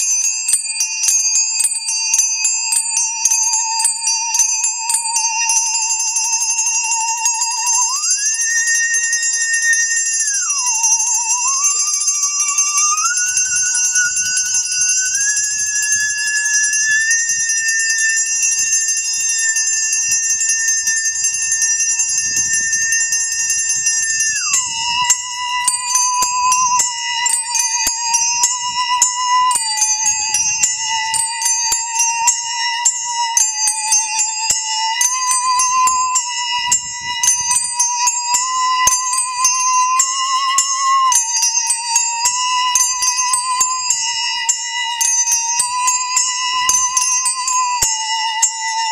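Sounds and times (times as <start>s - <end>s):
bowed musical saw: 0.0s - 48.9s
handbells ringing: 0.0s - 48.9s.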